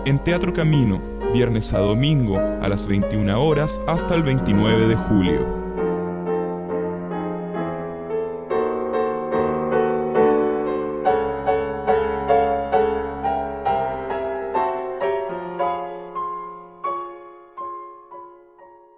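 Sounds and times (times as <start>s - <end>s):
slow piano melody: 0.0s - 18.9s.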